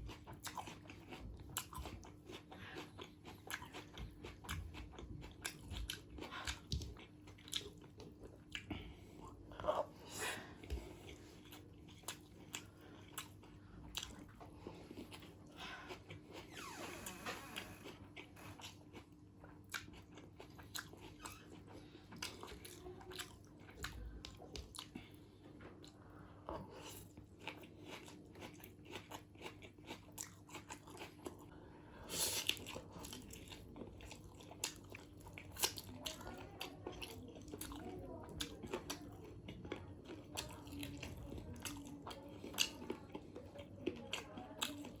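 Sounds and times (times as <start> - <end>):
chewing and biting food: 0.0 - 16.5, 17.4 - 31.7, 32.3 - 45.0.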